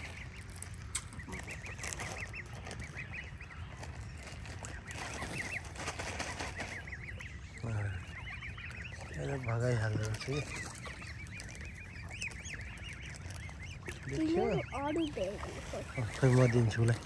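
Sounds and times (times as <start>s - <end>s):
flock of fowl calling: 0.0s - 17.0s.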